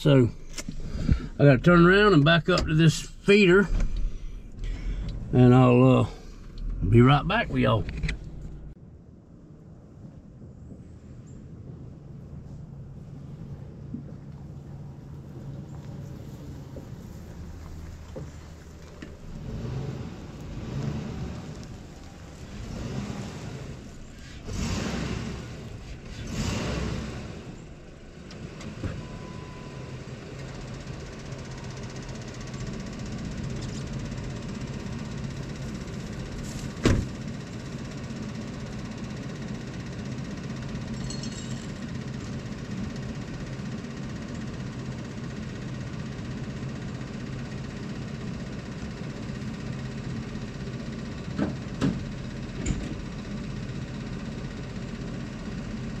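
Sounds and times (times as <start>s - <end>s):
truck engine idling: 0.0s - 8.8s, 10.5s - 26.2s, 26.8s - 56.0s.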